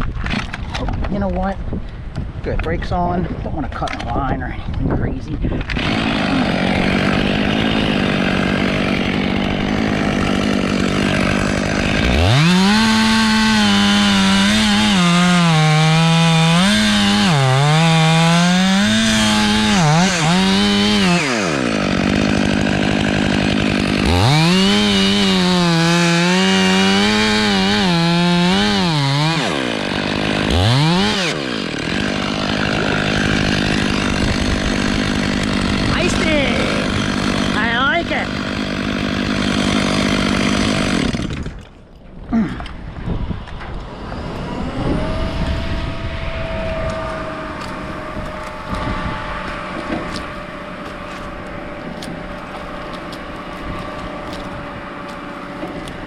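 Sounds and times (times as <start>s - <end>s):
chainsaw cutting wood: 0.0s - 0.8s, 5.5s - 56.0s.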